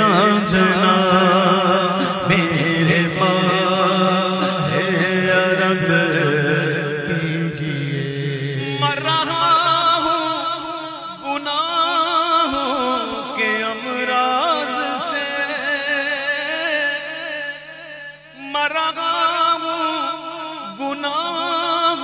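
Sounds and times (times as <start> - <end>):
man singing: 0.0 - 22.0.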